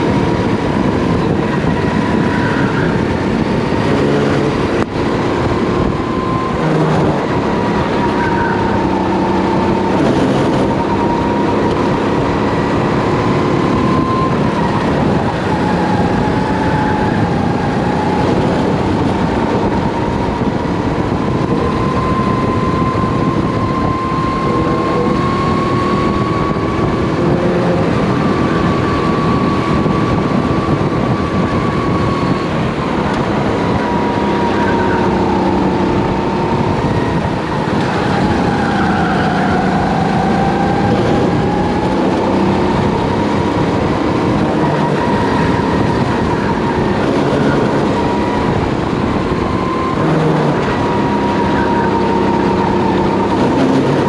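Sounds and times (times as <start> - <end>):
kart engine whine: 0.0 - 54.0
rush of noise: 0.0 - 54.0.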